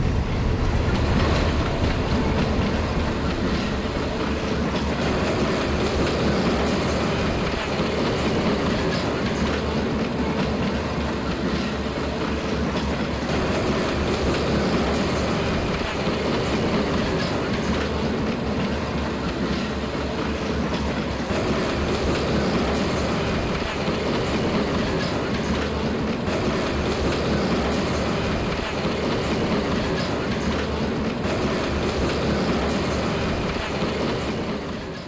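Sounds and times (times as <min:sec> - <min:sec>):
model train cars rolling on rails: 0:00.0 - 0:35.0.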